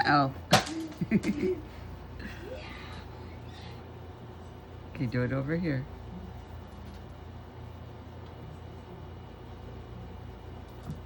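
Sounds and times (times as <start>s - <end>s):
faint background noise: 0.0s - 11.0s
steady low hum: 0.0s - 11.0s.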